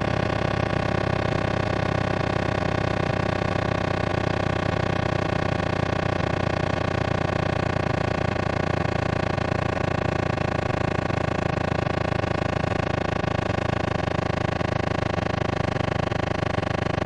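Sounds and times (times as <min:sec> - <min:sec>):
dense synthesized buzzing tone: 0:00.0 - 0:17.0.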